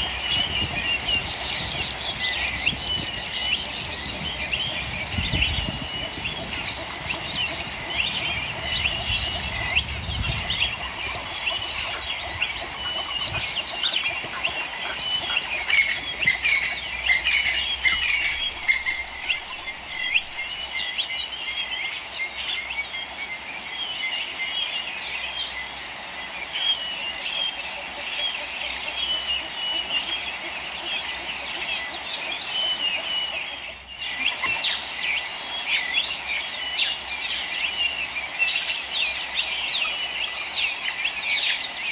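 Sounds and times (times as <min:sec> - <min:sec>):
small birds chirping in chorus: 0:00.0 - 0:41.9.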